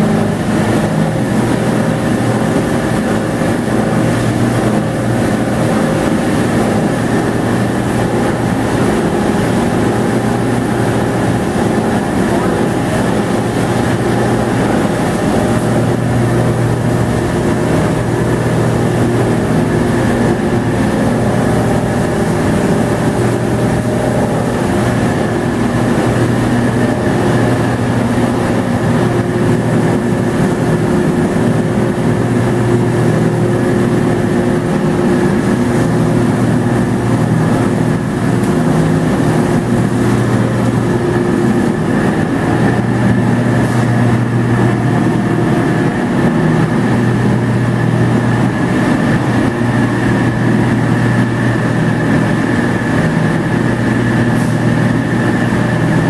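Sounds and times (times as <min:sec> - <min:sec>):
industrial machinery drone: 0:00.0 - 0:56.0.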